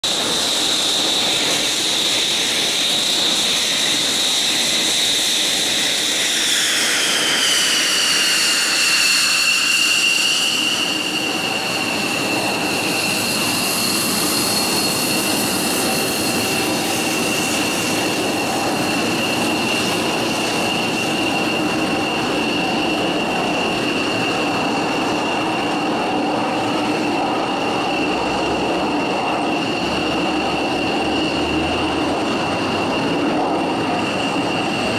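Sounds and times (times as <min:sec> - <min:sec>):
jet engine rumble: 0:00.0 - 0:34.9
jet engine turbine whine: 0:00.0 - 0:34.9.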